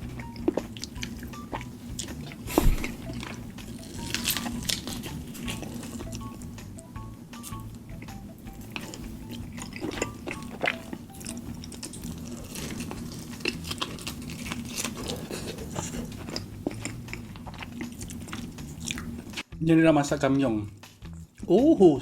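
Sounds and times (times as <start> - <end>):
person chewing food: 0.0 - 19.5.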